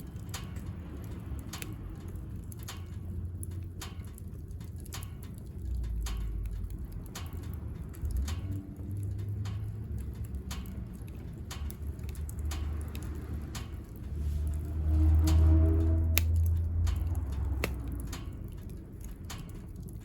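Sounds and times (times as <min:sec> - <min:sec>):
low rumble of fire: 0:00.0 - 0:20.0
wood fire crackling and popping: 0:00.0 - 0:20.0.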